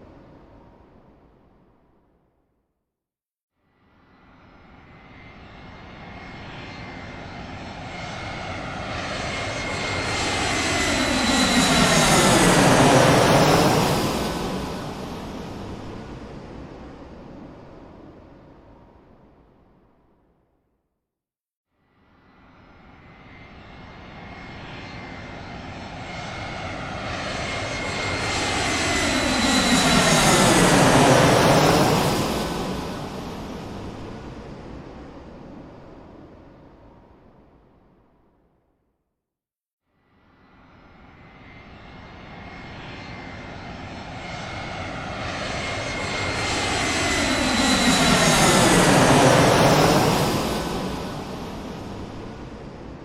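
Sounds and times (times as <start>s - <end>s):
airplane engine whine: 4.0s - 19.8s, 22.2s - 37.9s, 40.3s - 53.0s.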